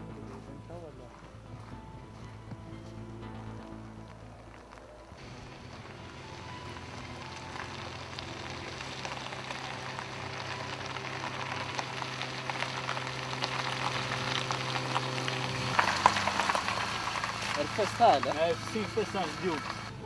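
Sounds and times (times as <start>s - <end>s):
car engine hum: 0.0s - 20.0s
tyres hissing on wet road: 3.6s - 20.0s.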